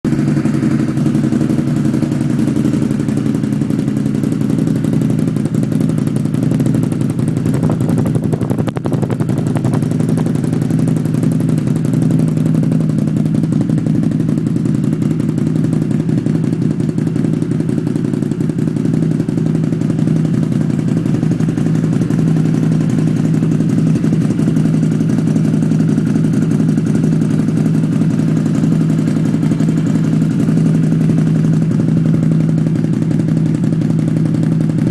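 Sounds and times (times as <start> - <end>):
vehicle engine running steadily: 0.1 - 34.9.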